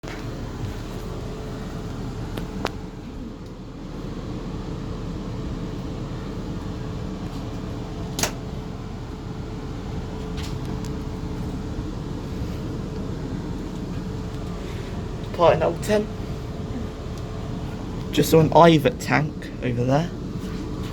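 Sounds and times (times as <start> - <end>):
train interior rumble and hum: 0.0 - 20.9.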